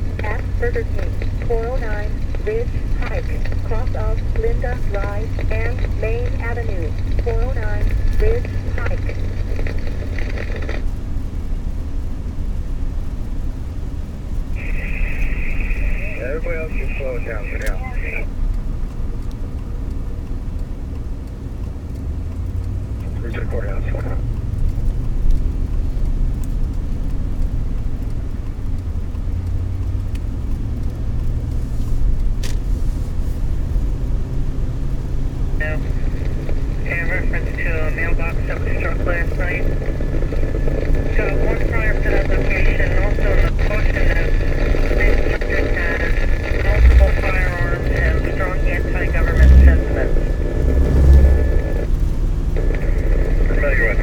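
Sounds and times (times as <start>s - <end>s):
scanner channel noise: 0.0s - 11.9s, 14.0s - 54.0s
car driving rumble: 0.0s - 54.0s.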